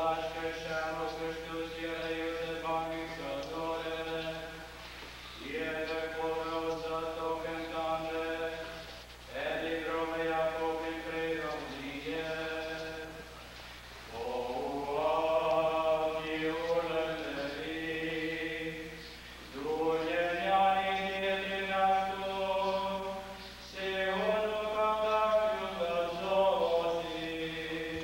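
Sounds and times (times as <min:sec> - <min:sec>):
voices singing slow chant: 0:00.0 - 0:28.0.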